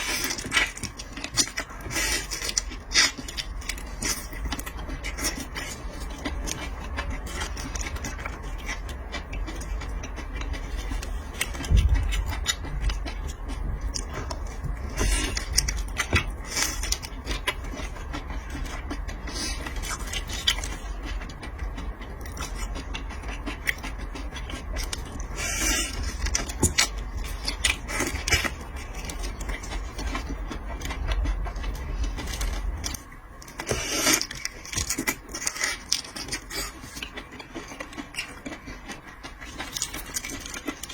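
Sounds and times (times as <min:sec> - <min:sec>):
low rumble: 0:00.0 - 0:34.7.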